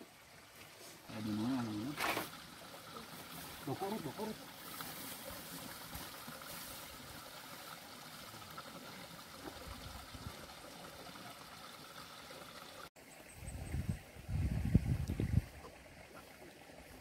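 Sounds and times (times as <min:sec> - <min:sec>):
faint trickle of flowing water: 0:00.0 - 0:17.0.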